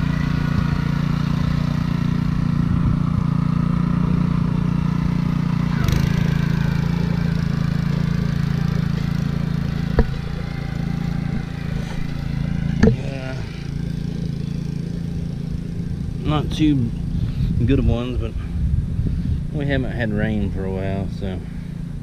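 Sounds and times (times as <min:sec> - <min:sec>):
aerator engine running: 0:00.0 - 0:22.0.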